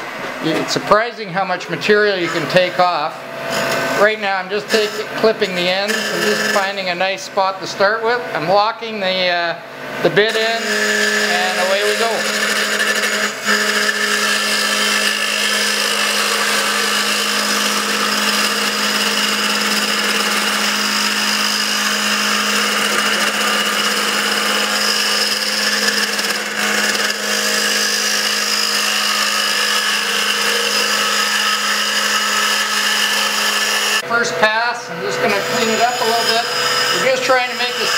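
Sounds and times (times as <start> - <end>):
lathe cutting wood: 0.0 - 8.0, 10.1 - 37.9
wood lathe motor hum: 1.9 - 7.0, 10.2 - 37.9.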